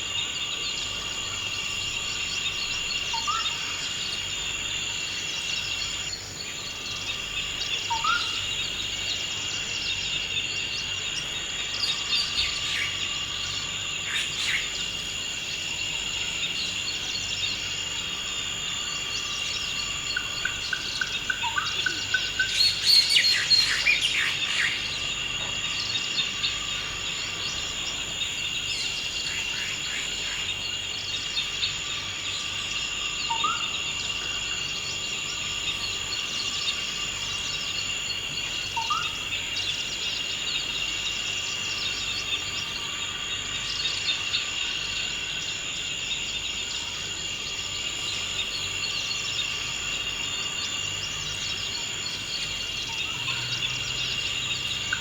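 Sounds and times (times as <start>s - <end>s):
insect chorus: 0.0s - 55.0s.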